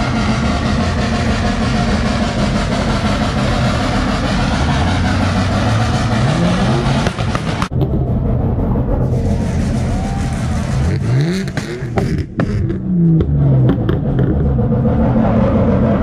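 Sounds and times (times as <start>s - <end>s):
car engines running loudly: 0.0s - 16.0s
engine revving up: 0.0s - 16.0s.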